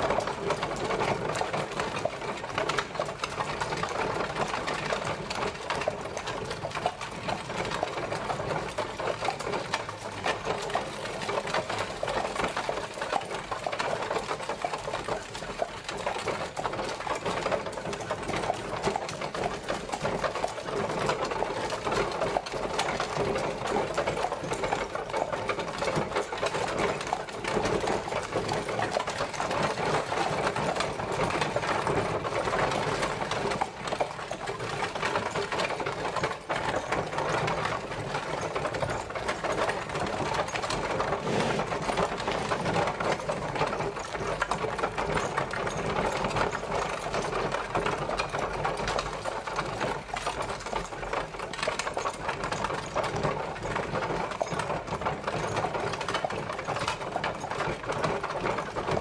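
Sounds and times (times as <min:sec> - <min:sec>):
carriage wheels rattling: 0:00.0 - 0:59.0.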